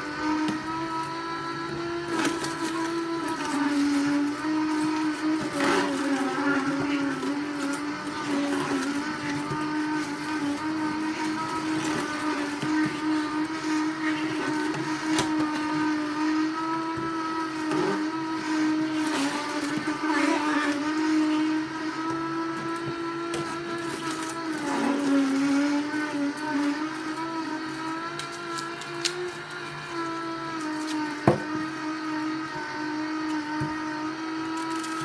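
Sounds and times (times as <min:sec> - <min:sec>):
electric juicer motor running: 0:00.0 - 0:35.0.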